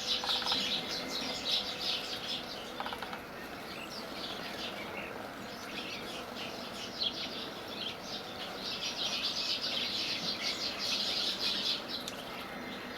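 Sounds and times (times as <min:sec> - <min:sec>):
sparrows chirping: 0:00.0 - 0:12.9.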